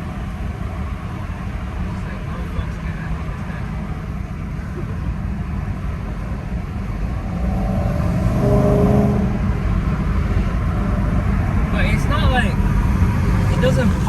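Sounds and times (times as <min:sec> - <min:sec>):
car engine accelerating: 0:00.0 - 0:14.0
road rumble: 0:00.0 - 0:14.0.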